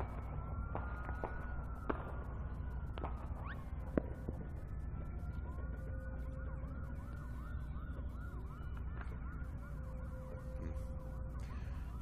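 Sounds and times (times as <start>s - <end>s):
emergency siren wailing and yelping: 0.0s - 12.0s.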